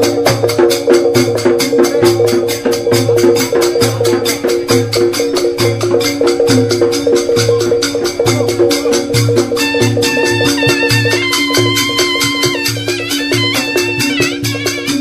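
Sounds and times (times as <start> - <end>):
music with fast percussive beat: 0.0 - 15.0.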